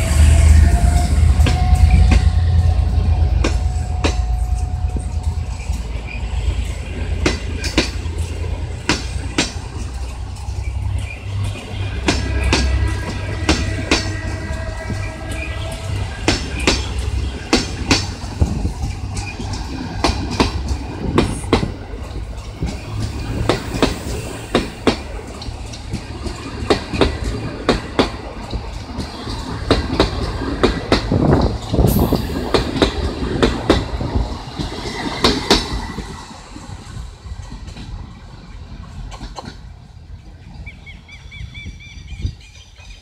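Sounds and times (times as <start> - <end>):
train wheels clacking over joints: 0.0 - 40.6
low rumble of train: 0.0 - 43.0.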